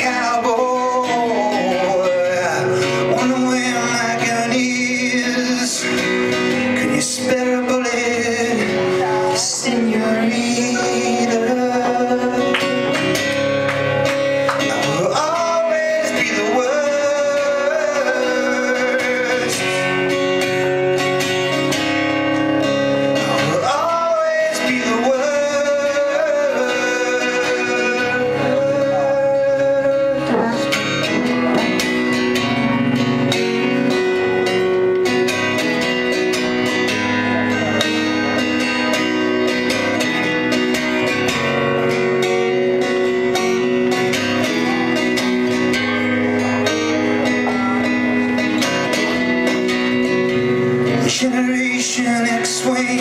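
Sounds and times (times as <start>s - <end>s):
live band with guitar: 0.0s - 53.0s.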